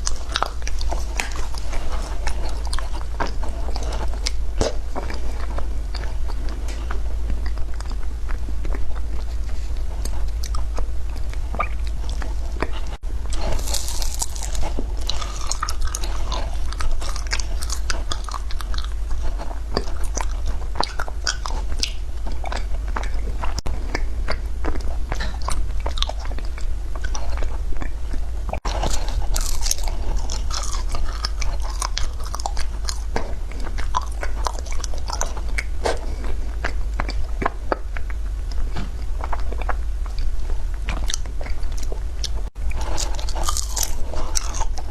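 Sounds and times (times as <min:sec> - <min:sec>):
frozen ice being chewed: 0:00.0 - 0:44.9
steady low hum: 0:00.0 - 0:44.9.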